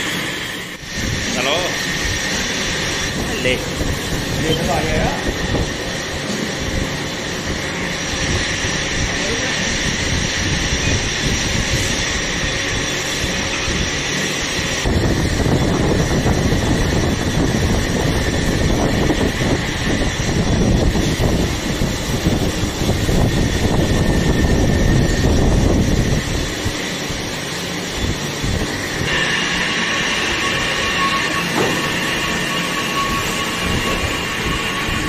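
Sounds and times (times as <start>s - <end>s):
lathe running with constant whine: 0.0s - 35.0s.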